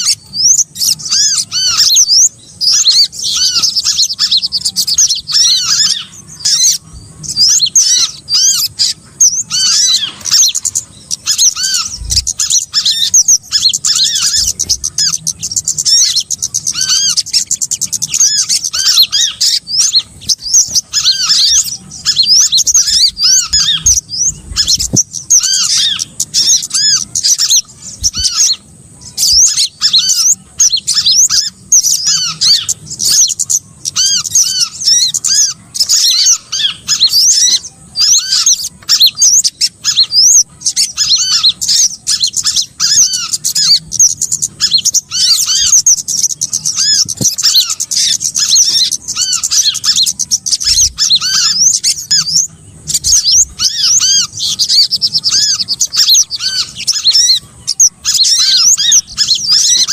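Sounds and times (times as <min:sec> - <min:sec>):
songbirds chirping and twittering: 0:00.0 - 0:59.9
whistled bird notes: 0:00.0 - 0:59.9.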